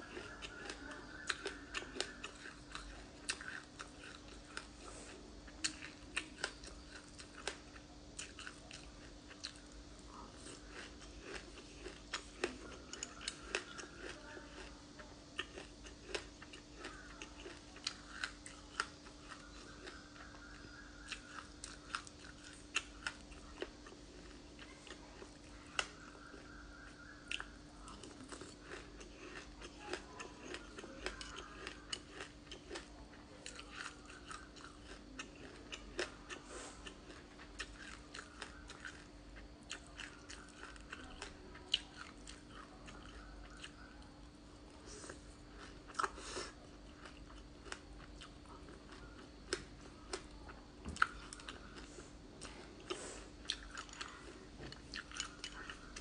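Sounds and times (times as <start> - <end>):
crunchy chewing and biting: 0.0 - 56.0.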